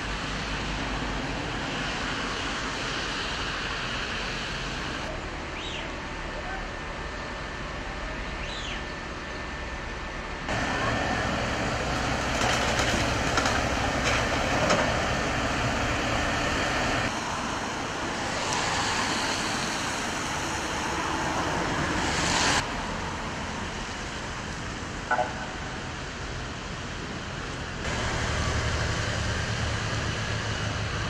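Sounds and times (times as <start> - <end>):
engines and heavy machinery: 0.0 - 31.0.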